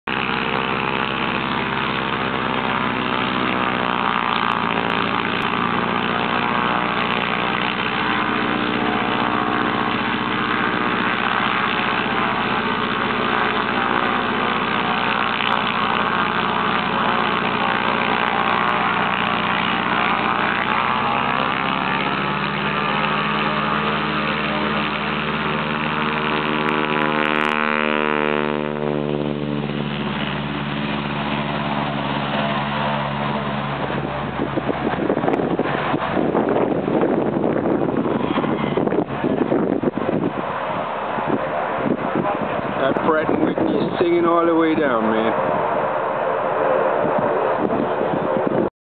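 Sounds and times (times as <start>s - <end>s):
radial aircraft engine running: 0.0s - 48.7s.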